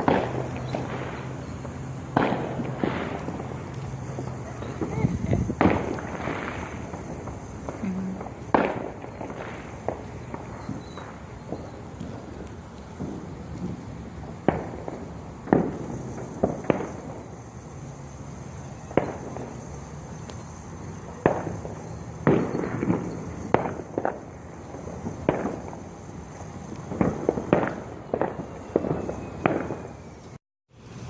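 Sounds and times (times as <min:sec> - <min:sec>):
fireworks bangs and pops: 0:00.0 - 0:30.4.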